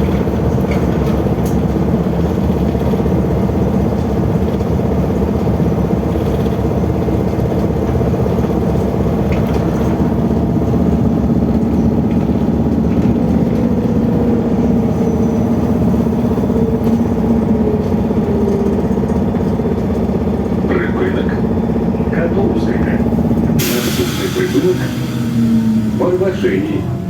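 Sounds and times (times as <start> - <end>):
tyres rumbling on road: 0.0 - 27.0.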